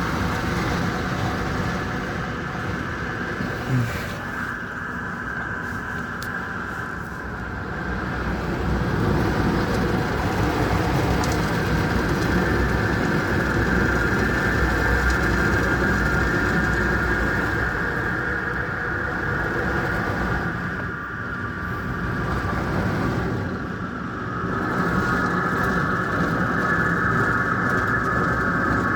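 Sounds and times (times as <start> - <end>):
car wash machinery and spray: 0.0 - 28.9
high steady machine whine: 0.0 - 28.9.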